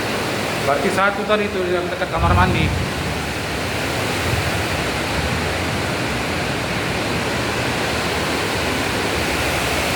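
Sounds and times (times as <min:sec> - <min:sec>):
heavy rain pouring: 0:00.0 - 0:09.9.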